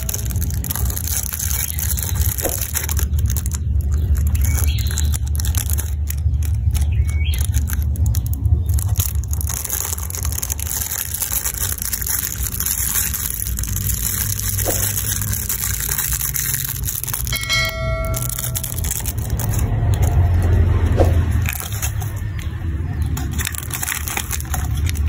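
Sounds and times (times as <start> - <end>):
plastic wrapper crinkling: 0.0 - 25.0.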